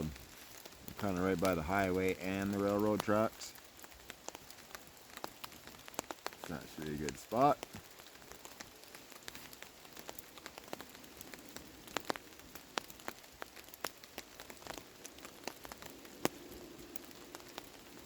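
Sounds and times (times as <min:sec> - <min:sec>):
campfire pops and crackles: 0:00.0 - 0:18.0
rain falling on a surface: 0:00.0 - 0:18.0.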